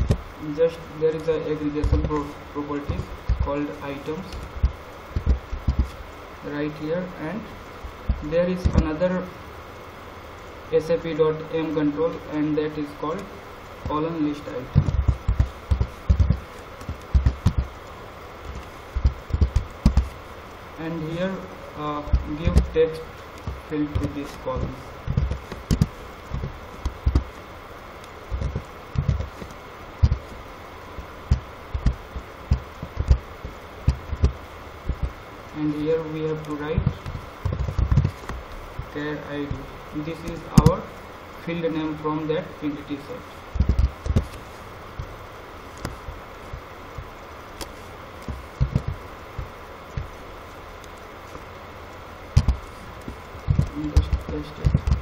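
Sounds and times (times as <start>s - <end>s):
background hiss: 0.0s - 55.0s.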